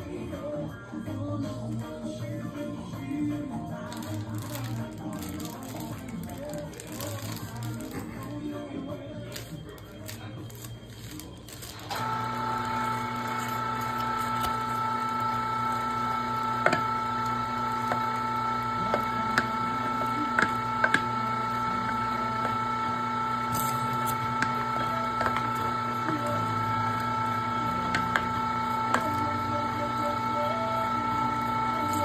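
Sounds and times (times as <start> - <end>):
meat grinder motor hum: 3.3 - 8.4, 9.3 - 32.0.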